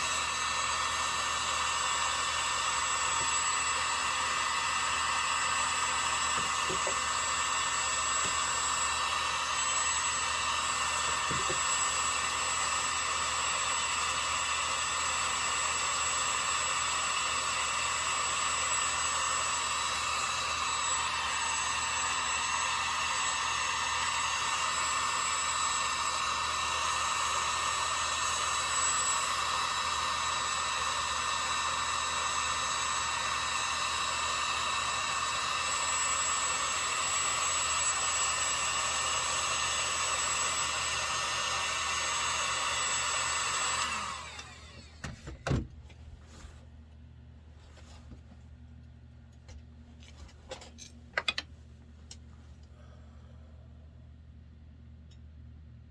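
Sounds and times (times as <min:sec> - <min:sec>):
small blower whirring: 0:00.0 - 0:46.7.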